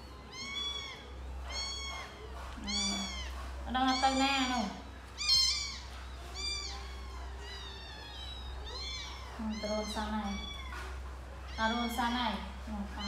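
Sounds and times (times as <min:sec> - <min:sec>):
kitten meowing: 0:00.2 - 0:10.8.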